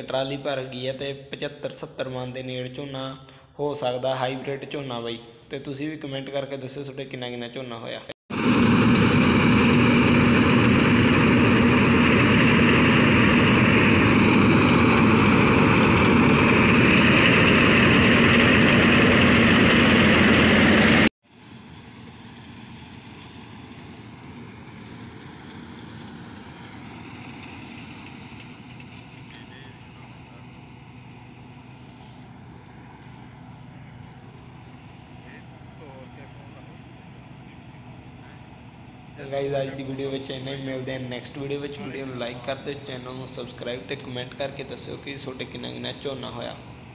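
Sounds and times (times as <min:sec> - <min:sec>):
combine harvester drone: 0:08.3 - 0:46.9
faint engine rumble: 0:08.3 - 0:46.9.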